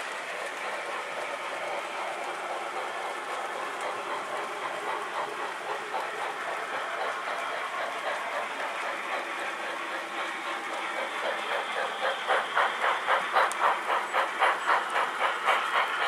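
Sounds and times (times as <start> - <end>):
model steam train rushing: 0.0 - 16.0
model train wheel noise: 0.0 - 16.0.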